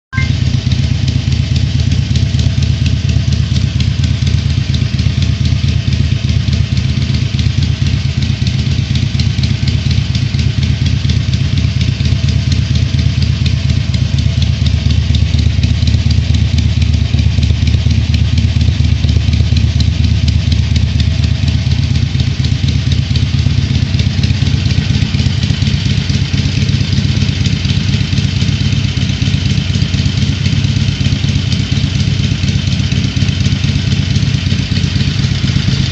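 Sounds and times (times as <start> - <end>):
motorcycle engine idling: 0.1 - 35.9.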